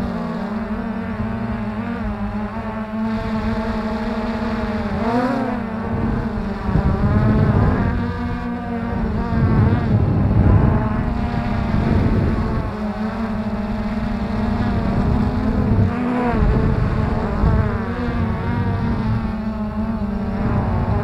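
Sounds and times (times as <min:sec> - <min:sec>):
drone propellers buzzing: 0:00.0 - 0:21.0
wind noise on microphone: 0:00.0 - 0:21.0.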